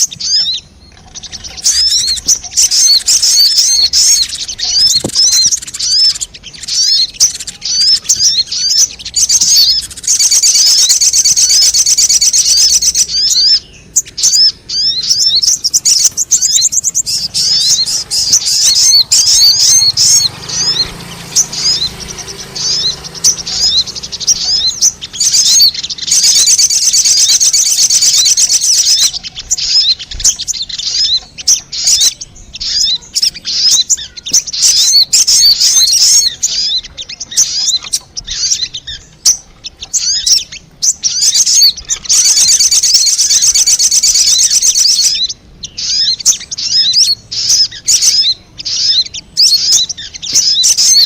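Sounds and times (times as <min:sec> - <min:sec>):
high-pitched bird chirping: 0:00.0 - 0:51.0.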